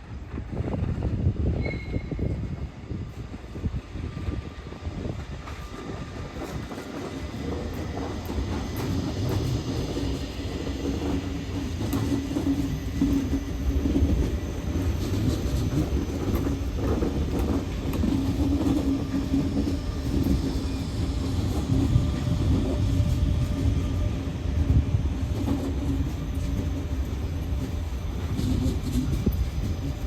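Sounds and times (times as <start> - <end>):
train hum: 0.0 - 30.0
train wheels rumbling: 0.0 - 30.0.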